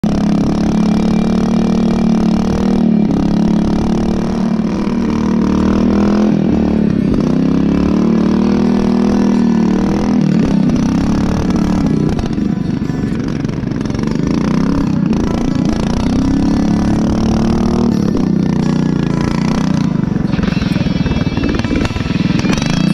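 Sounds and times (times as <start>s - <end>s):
tractor engine revving: 0.0s - 22.9s.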